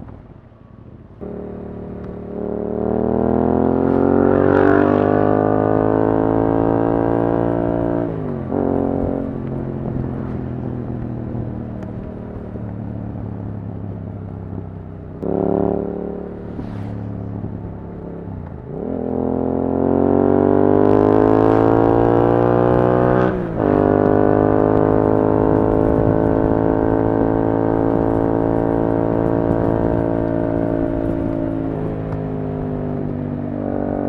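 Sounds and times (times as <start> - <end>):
motorcycle engine revving: 1.2 - 13.3, 14.1 - 34.0.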